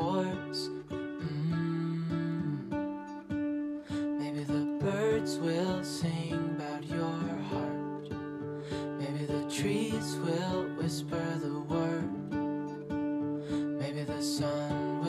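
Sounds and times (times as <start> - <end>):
plucked and strummed guitar music: 0.0 - 15.0.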